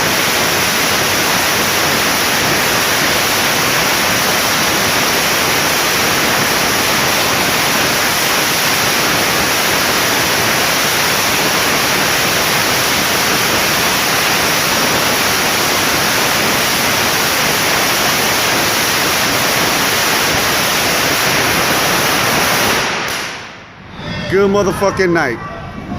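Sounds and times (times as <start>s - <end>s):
firecrackers crackling: 0.0s - 23.8s.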